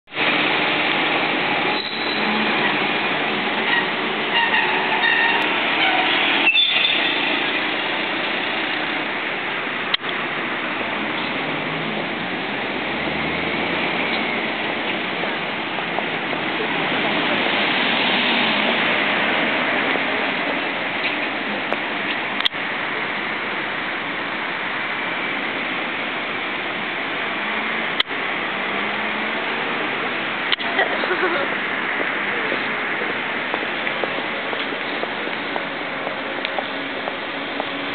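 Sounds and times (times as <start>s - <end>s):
idling vehicles hum: 0.1s - 37.9s
street noise hiss: 0.1s - 37.9s.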